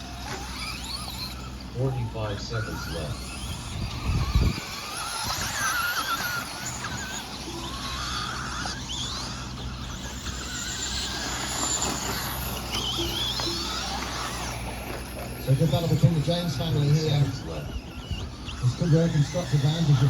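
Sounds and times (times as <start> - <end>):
rc truck motors whining: 0.0 - 20.0
steady low hum: 0.0 - 20.0.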